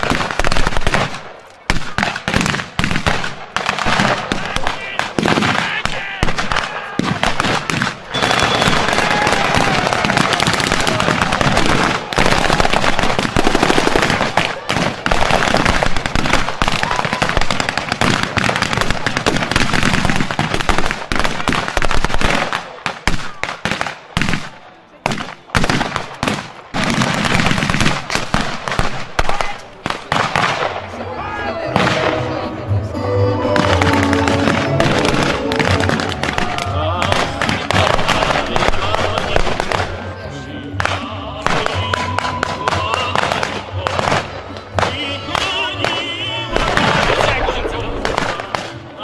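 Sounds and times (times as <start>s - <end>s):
rifle and machine gun fire: 0.0s - 30.8s, 33.6s - 40.0s, 40.8s - 48.8s.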